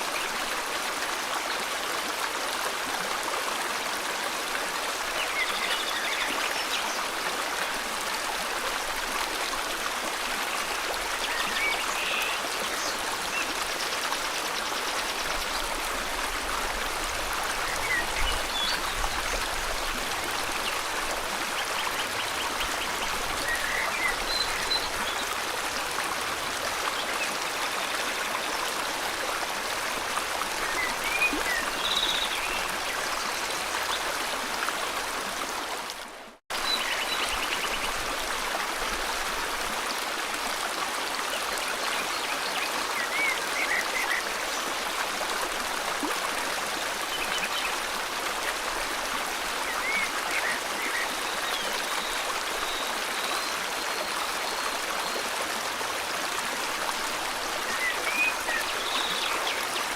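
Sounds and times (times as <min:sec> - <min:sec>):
flowing river: 0:00.0 - 0:59.9.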